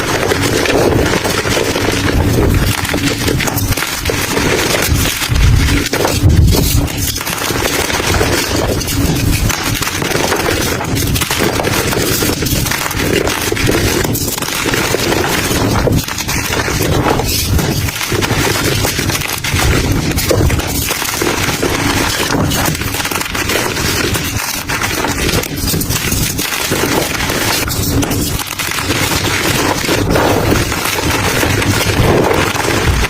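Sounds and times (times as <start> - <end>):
dry crumble crunching: 0.0 - 33.0.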